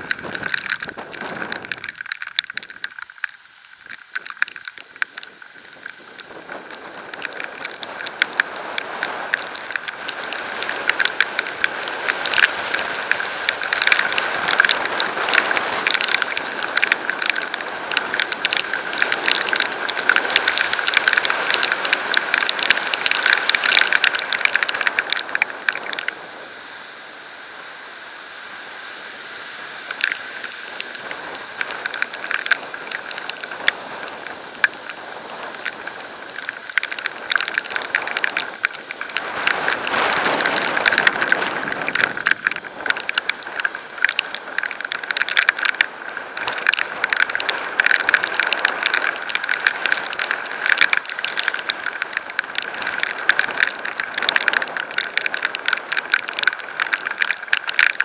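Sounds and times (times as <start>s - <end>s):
rain drumming on camera: 0.0s - 58.0s
road and tyre noise: 0.0s - 58.0s.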